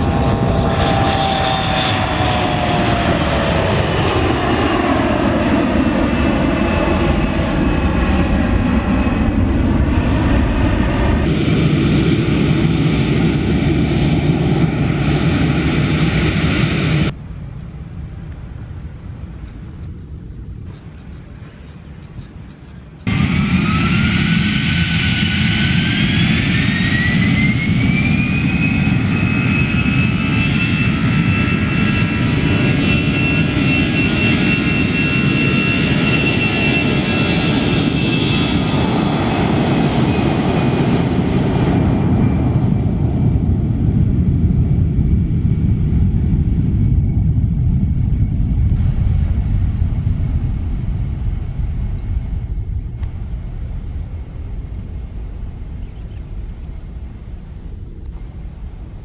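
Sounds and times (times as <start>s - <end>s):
jet engine deep roar: 0.0s - 21.6s, 22.8s - 59.0s
jet engine whine: 0.0s - 59.0s.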